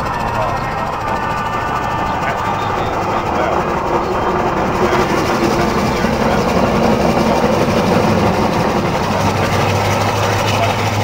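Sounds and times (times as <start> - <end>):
steam roller running: 0.0 - 11.0.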